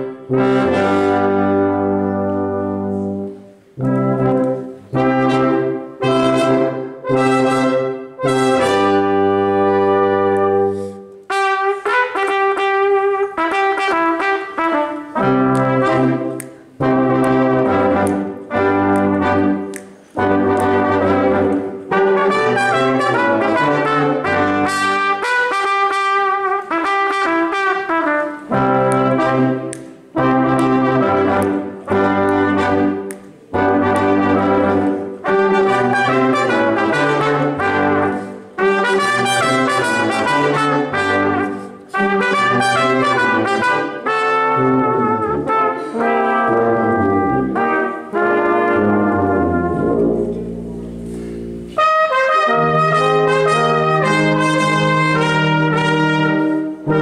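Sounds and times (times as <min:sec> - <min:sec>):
brass quintet playing: 0:00.0 - 0:57.0
trumpet melody: 0:00.0 - 0:57.0
tuba bass line: 0:00.0 - 0:57.0.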